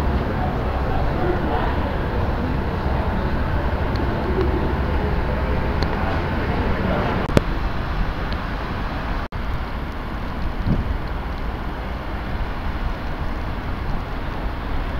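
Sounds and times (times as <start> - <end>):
train rumbling inside carriage: 0.0 - 14.9.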